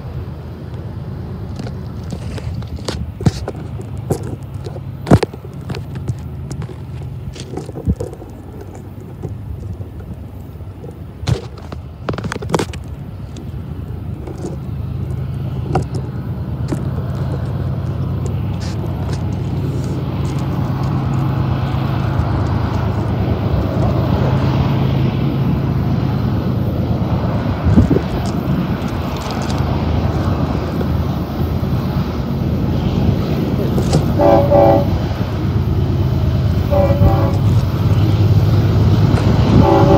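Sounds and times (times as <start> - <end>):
diesel locomotive engines rumbling: 0.0 - 39.9.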